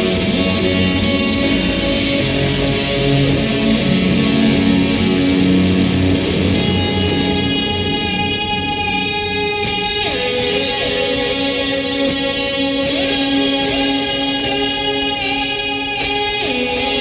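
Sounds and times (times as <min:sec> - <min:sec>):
electric guitar chords with effects: 0:00.0 - 0:17.0.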